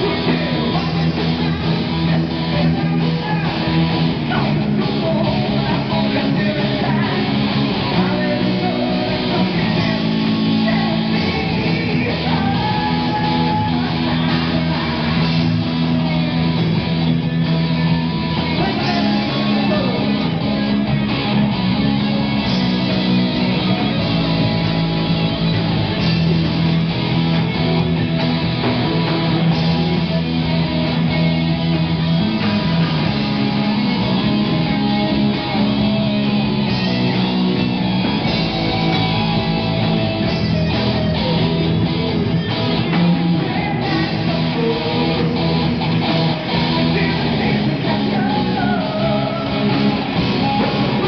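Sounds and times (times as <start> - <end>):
drums: 0.0 - 51.0
electric guitars: 0.0 - 51.0.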